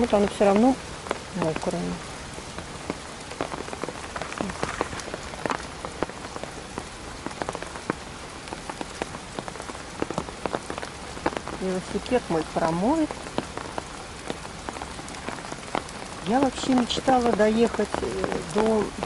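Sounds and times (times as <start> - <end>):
heavy rain: 0.0 - 19.0
raindrops on umbrella: 0.0 - 19.0.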